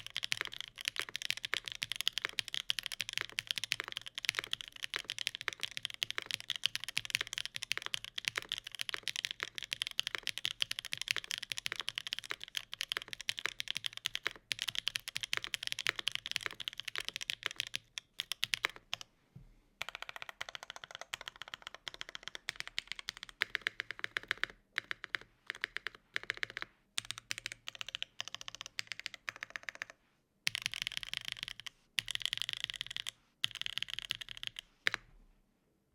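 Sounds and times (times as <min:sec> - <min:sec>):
fast typing on mechanical keyboard: 0:00.0 - 0:19.1, 0:19.8 - 0:35.0.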